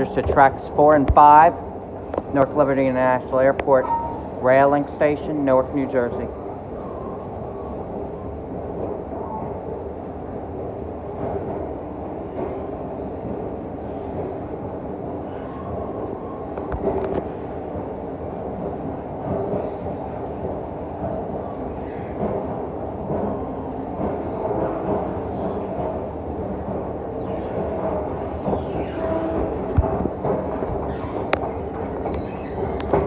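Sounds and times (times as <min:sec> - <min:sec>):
escalator humming and rumbling: 0:00.0 - 0:33.0.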